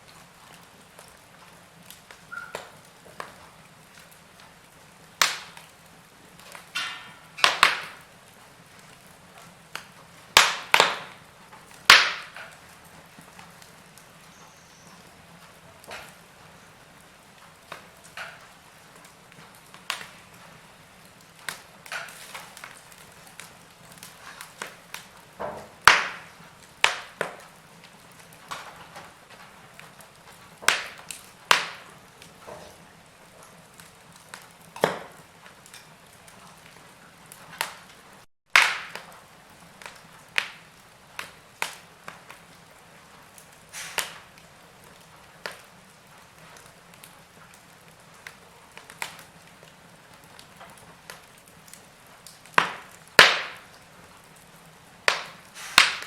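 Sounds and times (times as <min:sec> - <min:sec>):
fire crackling and popping: 0:00.0 - 0:56.0
soft steady fire hiss: 0:00.0 - 0:56.0.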